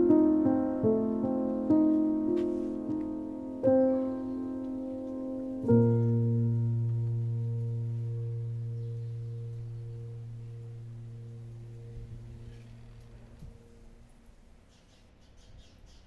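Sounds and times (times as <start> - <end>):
low piano note ringing: 0.0 - 14.7.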